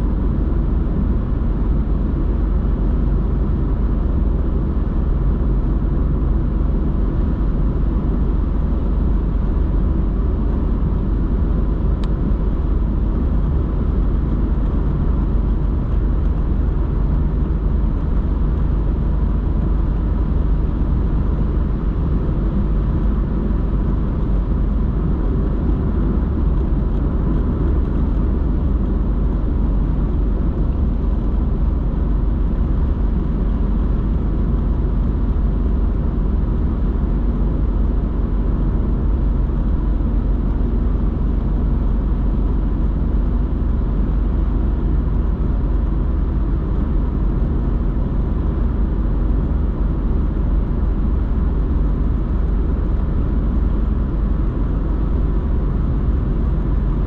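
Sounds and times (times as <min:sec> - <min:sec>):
car engine drone: 0:00.0 - 0:57.0
tyre road noise: 0:00.0 - 0:57.0.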